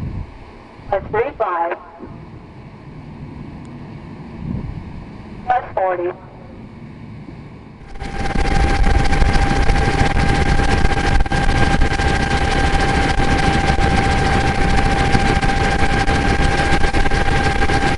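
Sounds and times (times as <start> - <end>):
helicopter engine and rotor noise: 0.0 - 17.9
steady engine whine: 0.0 - 17.9.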